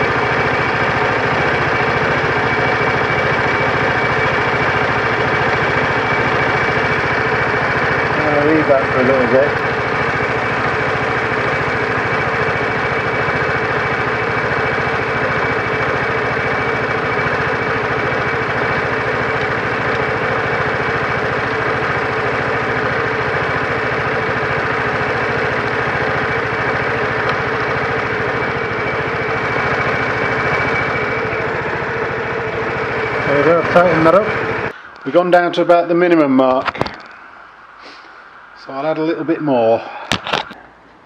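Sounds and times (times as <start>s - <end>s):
scooter engine idling: 0.0s - 37.0s.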